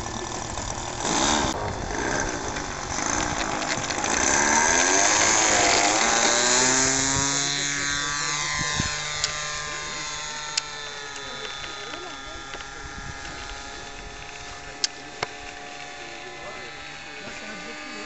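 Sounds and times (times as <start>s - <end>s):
model airplane engine buzzing: 0.0s - 18.0s.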